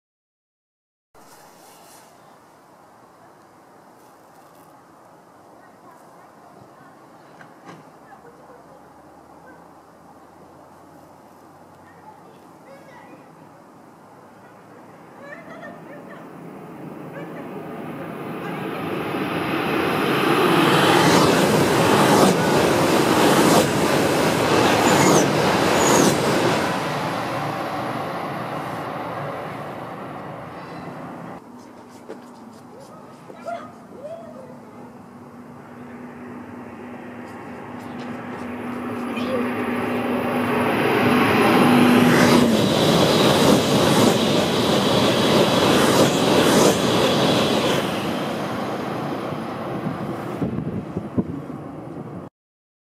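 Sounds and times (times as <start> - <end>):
high-speed train passing: 4.6 - 52.3.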